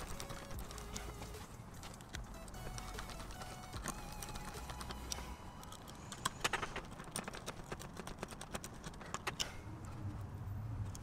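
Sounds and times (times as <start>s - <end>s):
light clicks of small hard parts: 0.0s - 10.0s.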